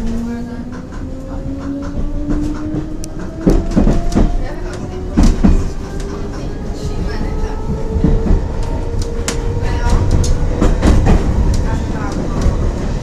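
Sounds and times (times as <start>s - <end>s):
train rumble and hum: 0.0s - 13.0s
wheels clacking over rail joints: 0.0s - 13.0s.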